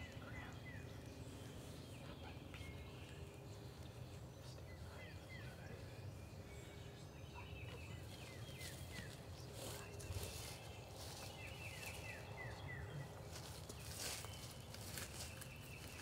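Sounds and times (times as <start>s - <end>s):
birds chirping and whistling: 0.0s - 16.0s.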